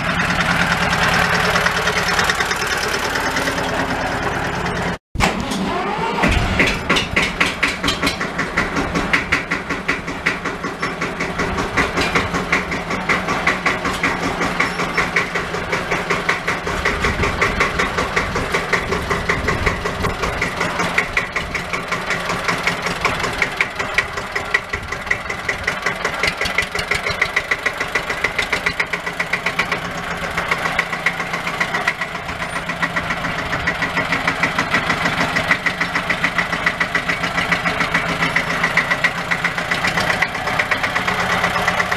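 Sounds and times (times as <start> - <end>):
diesel tractor engine chugging: 0.0 - 41.9.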